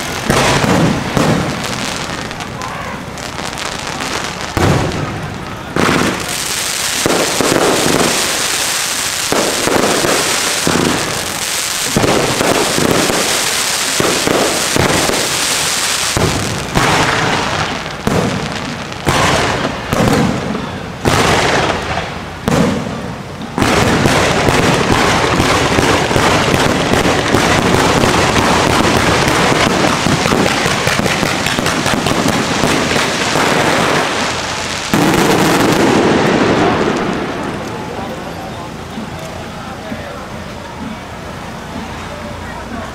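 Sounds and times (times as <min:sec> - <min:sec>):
sharp firework bangs: 0:00.0 - 0:38.0
firework shells bursting and crackling: 0:00.0 - 0:41.2.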